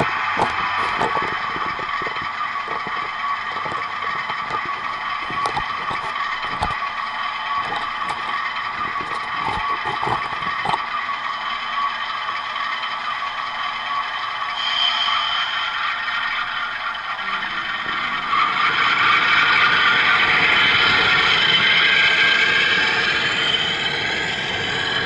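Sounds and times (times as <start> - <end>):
wheels clattering over rails: 0.0 - 14.6, 15.8 - 25.0
model train motor whir: 0.0 - 25.0.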